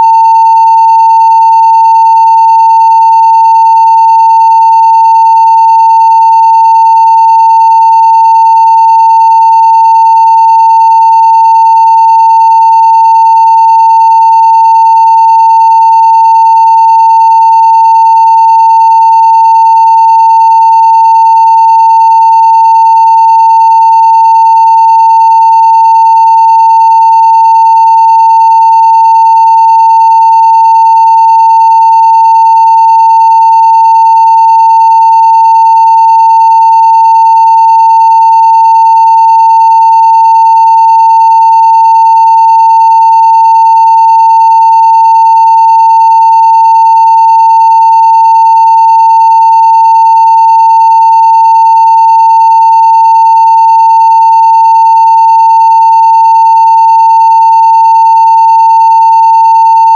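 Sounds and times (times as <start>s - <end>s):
steady sine test tone: 0.0s - 59.9s.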